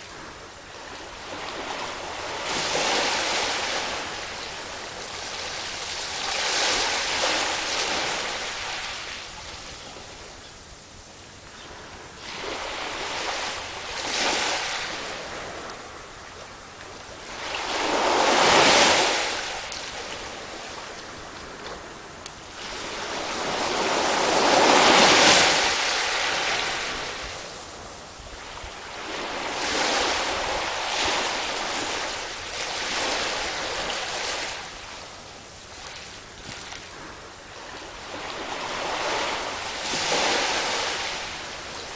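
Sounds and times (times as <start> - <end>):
waves breaking: 0.0 - 9.7, 12.2 - 41.9.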